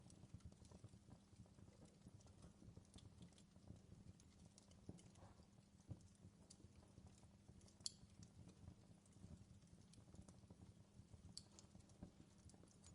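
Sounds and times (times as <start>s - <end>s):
wood fire crackling: 0.0s - 12.9s.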